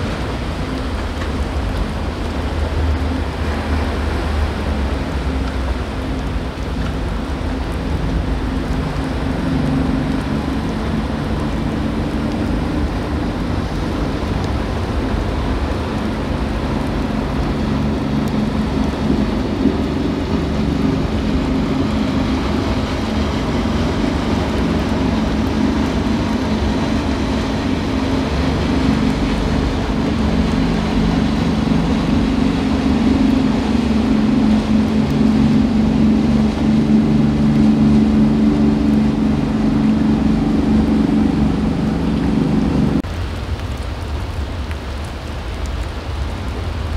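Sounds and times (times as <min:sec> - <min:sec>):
boat engines droning: 0:00.0 - 0:46.9
water rushing from wake: 0:00.0 - 0:46.9
wind on microphone: 0:00.0 - 0:46.9.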